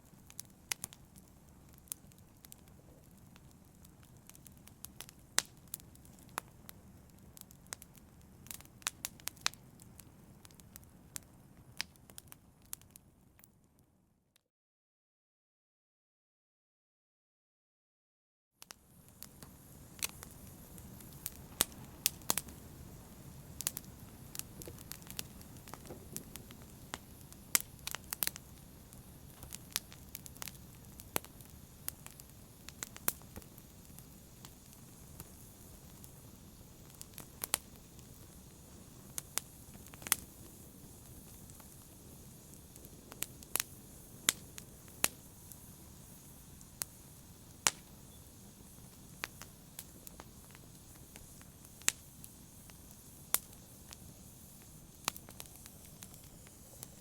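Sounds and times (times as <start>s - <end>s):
low rumble of flames: 0.0s - 13.2s, 18.7s - 57.0s
wood fire crackling and popping: 0.0s - 13.5s, 18.6s - 57.0s.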